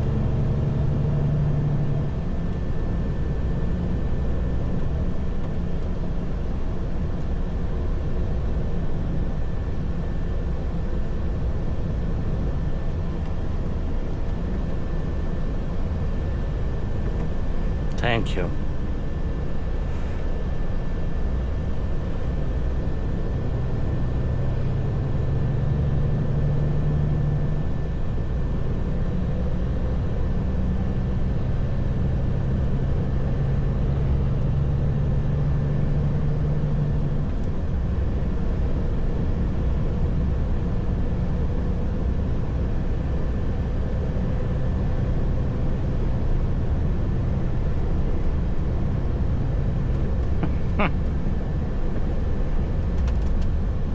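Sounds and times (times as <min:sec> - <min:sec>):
truck diesel engine droning: 0:00.0 - 0:53.3.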